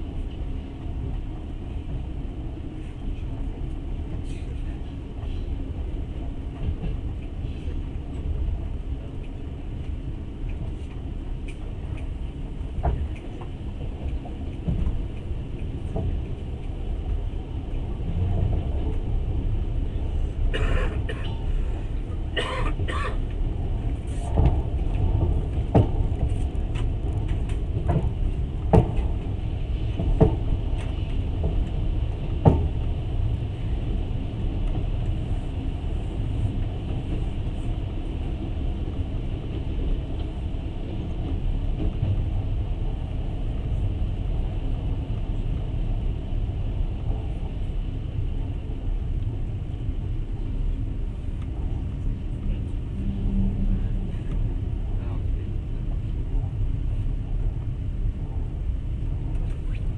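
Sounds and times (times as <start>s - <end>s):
train rumble from aboard: 0.0s - 59.9s.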